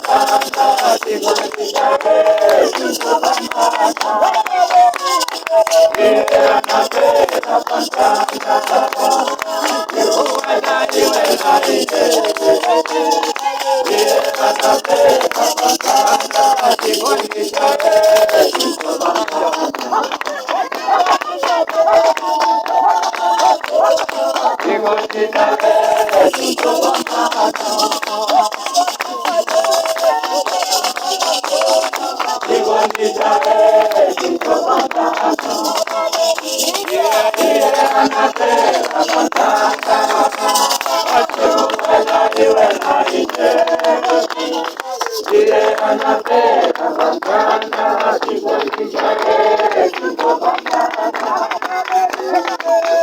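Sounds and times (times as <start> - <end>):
sharp percussive hits: 0.0 - 46.1
congregation singing: 0.0 - 53.0.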